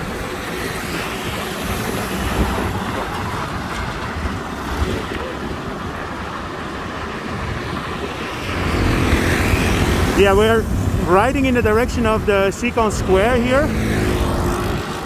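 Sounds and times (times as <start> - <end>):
road traffic noise: 0.0 - 15.0
wind rushing over microphone: 0.0 - 15.0.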